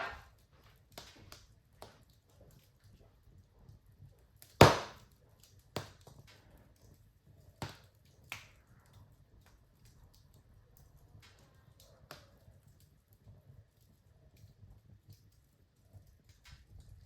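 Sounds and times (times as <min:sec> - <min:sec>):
fire popping: 0:00.0 - 0:17.0
wood fire crackling: 0:00.0 - 0:17.0.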